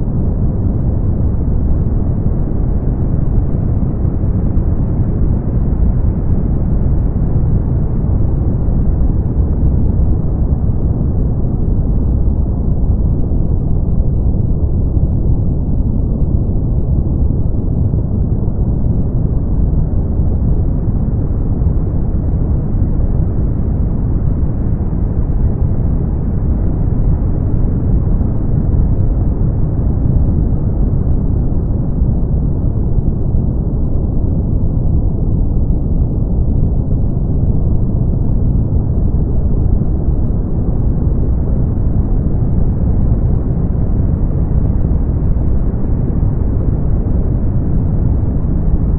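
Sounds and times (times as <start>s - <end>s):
brown noise rumbling hiss: 0.0s - 48.9s.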